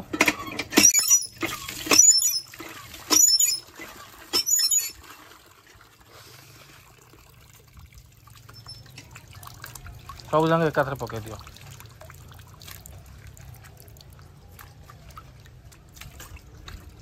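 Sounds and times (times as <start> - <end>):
water splashing and pouring: 0.8 - 17.0.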